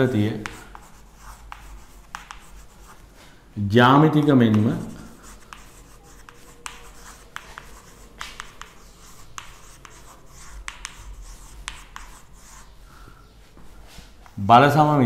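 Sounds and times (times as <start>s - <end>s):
chalk writing on chalkboard: 0.0s - 3.2s, 4.0s - 12.8s, 13.5s - 14.9s.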